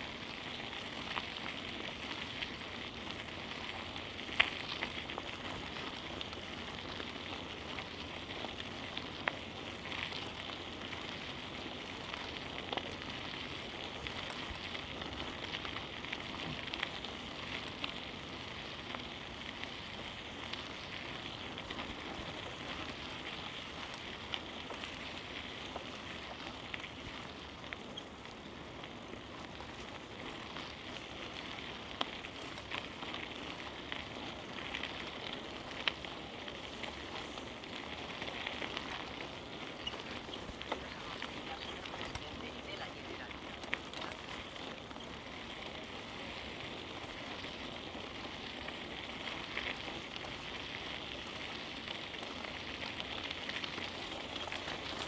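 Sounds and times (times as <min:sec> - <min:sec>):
bicycle tyres hissing: 0:00.0 - 0:55.0.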